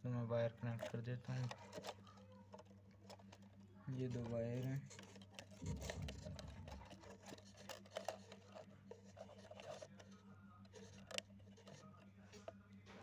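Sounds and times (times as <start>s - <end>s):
low steady hum: 0.0s - 13.0s
fingers handling wires: 0.6s - 13.0s.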